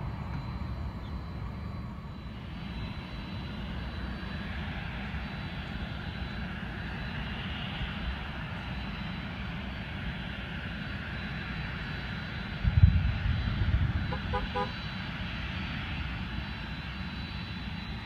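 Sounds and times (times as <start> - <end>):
distant jet engine drone: 0.0 - 18.0.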